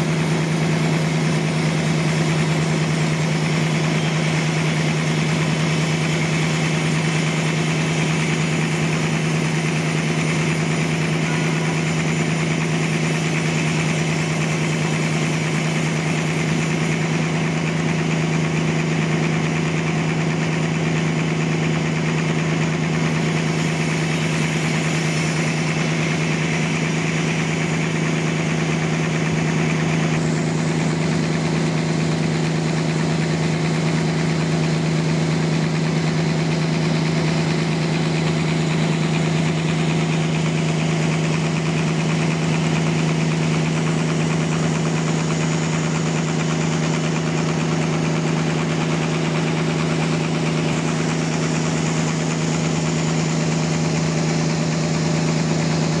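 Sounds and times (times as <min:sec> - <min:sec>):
band saw cutting log: 0:00.0 - 0:56.0
low machine drone: 0:00.0 - 0:56.0.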